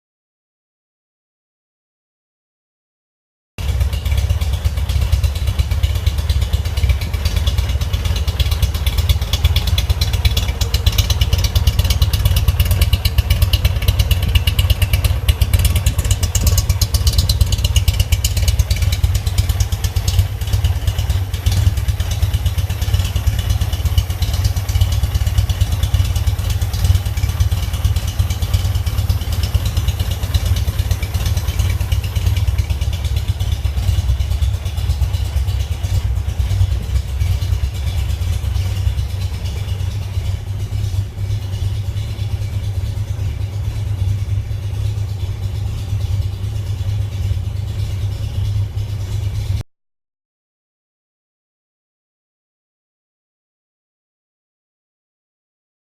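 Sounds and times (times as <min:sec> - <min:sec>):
car engine idling: 0:03.6 - 0:49.6.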